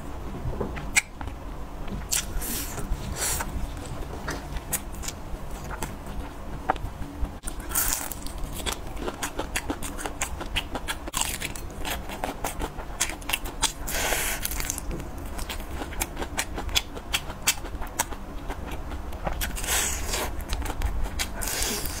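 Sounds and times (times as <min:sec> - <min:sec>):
chewing sausage: 0:02.1 - 0:22.0.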